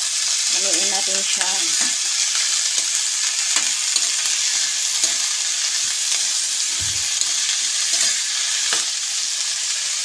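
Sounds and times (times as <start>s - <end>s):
beans sizzling in hot oil: 0.0s - 10.0s.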